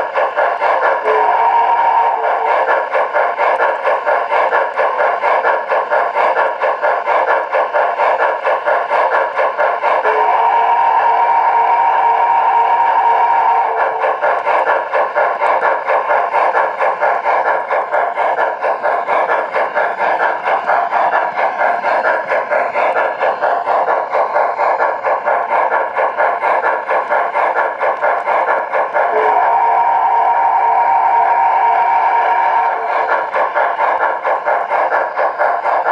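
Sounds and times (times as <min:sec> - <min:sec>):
model steam locomotive chuffing: 0:00.0 - 0:35.9.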